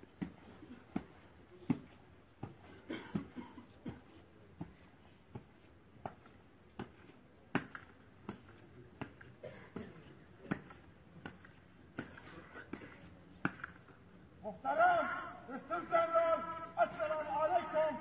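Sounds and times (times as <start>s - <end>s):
faint rhythmic thuds: 0.0s - 18.0s.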